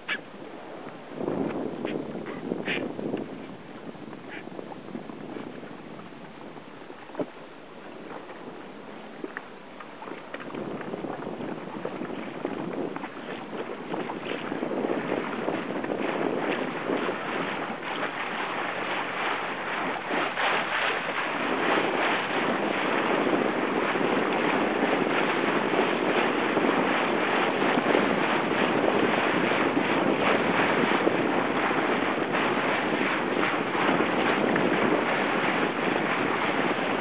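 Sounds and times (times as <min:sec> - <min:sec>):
water rushing and splashing: 0:00.0 - 0:37.0
wind buffeting microphone: 0:00.0 - 0:37.0.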